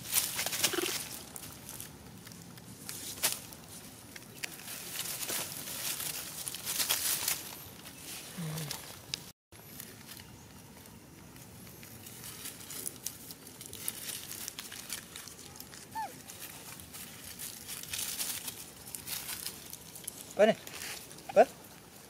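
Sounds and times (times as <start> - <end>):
dry leaves crackling and rustling: 0.0 - 22.0.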